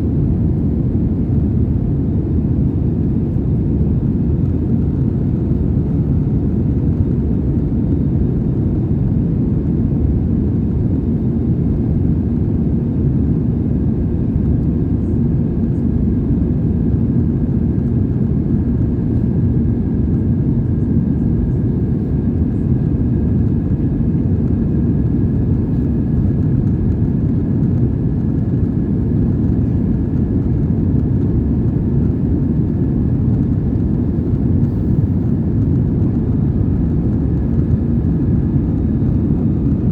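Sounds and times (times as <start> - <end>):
airplane engines roaring in cabin: 0.0 - 39.9.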